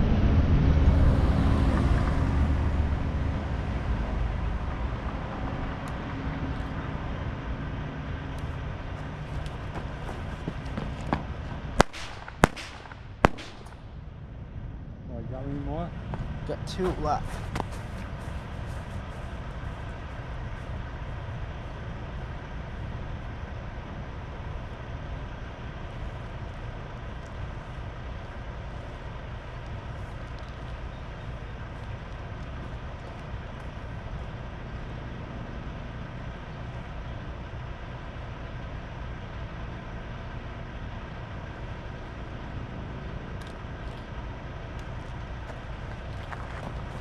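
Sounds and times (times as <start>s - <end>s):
low outdoor rumble: 0.0s - 47.0s.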